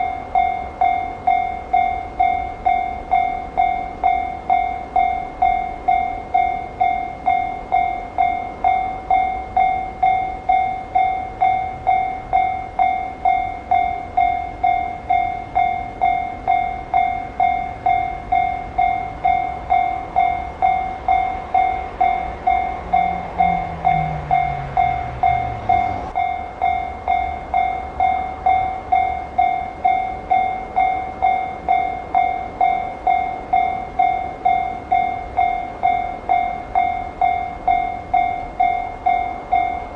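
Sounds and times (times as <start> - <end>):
level crossing alarm clanging: 0.0 - 39.9
low train rumble: 0.0 - 39.9.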